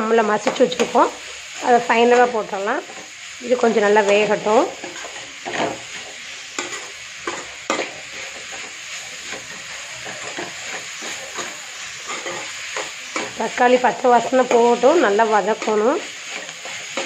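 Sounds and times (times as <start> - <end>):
vegetables sizzling in a pan: 0.0 - 17.0
metal spatula scraping a pan: 0.3 - 17.0.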